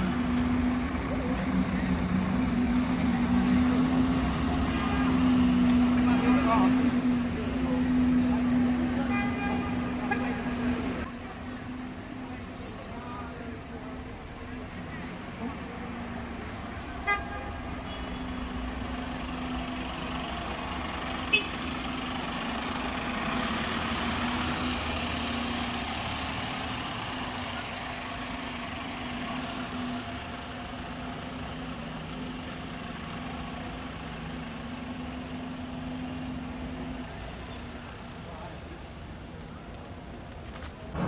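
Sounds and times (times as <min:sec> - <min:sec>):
street noise: 0:00.0 - 0:41.0.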